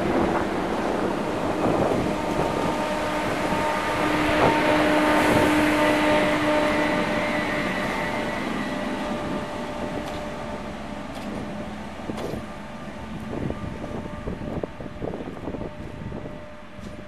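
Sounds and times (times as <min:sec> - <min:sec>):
electric locomotive humming: 0:00.0 - 0:17.0.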